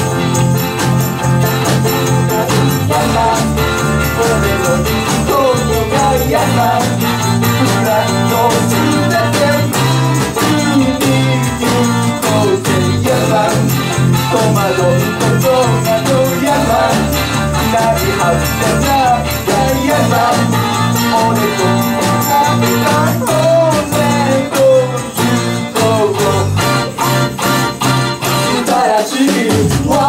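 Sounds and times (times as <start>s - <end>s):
live pop band playing: 0.0s - 30.0s
male and female voices singing: 1.5s - 27.0s, 28.3s - 30.0s.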